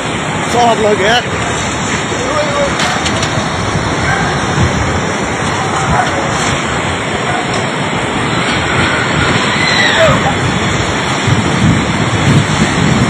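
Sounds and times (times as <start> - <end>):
rushing floodwater roar: 0.0 - 13.0
wind on microphone: 0.0 - 13.0.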